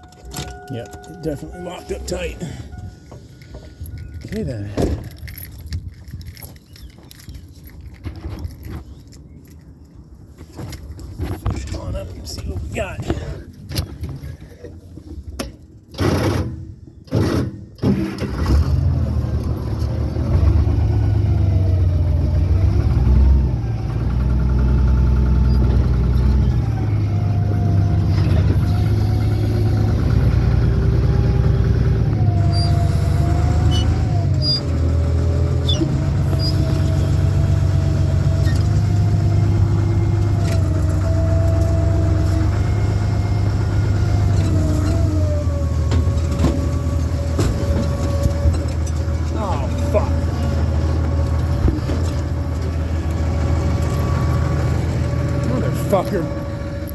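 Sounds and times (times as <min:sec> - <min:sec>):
vehicle engine whining under load: 0:00.0 - 0:56.9.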